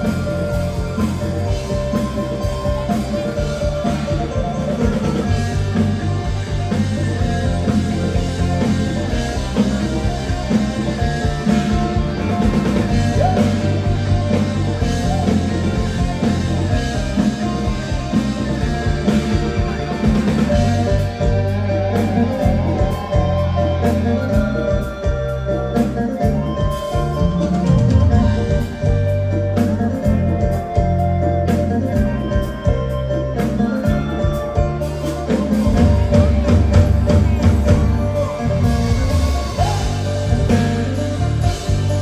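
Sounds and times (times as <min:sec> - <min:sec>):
bass line: 0:00.0 - 0:42.0
drum kit beat: 0:00.0 - 0:42.0
live band music: 0:00.0 - 0:42.0.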